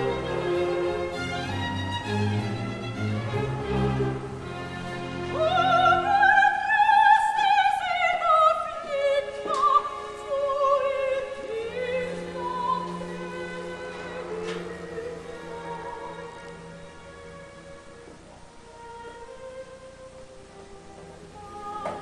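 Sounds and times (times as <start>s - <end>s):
orchestral accompaniment: 0.0s - 22.0s.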